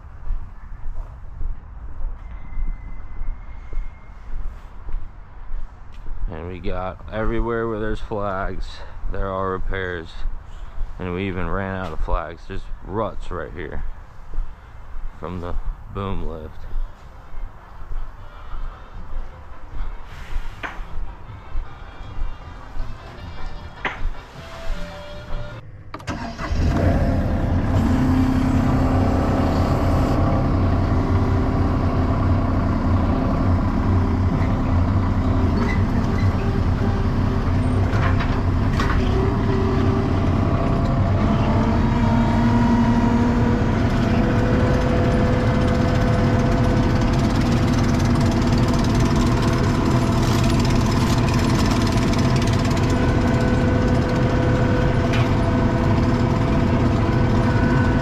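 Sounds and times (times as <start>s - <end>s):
diesel engine running: 2.0s - 58.0s.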